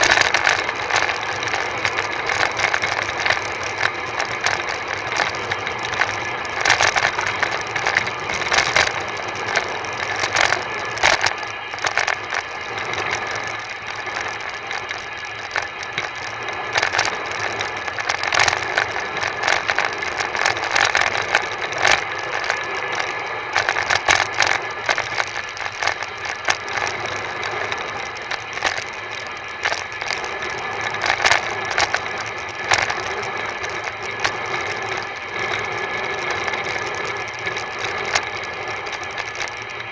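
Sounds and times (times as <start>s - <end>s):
rushing road and air noise: 0.0s - 39.9s.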